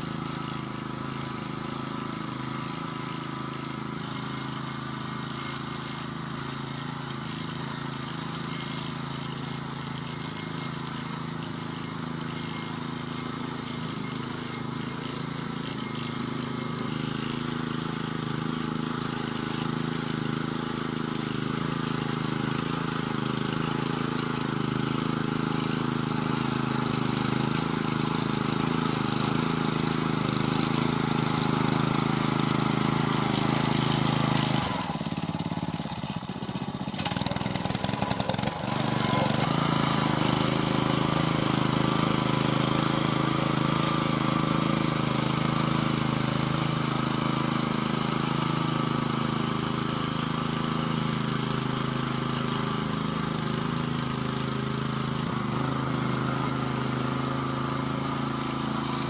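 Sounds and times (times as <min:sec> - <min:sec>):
walking tractor engine running: 0:00.0 - 0:59.0.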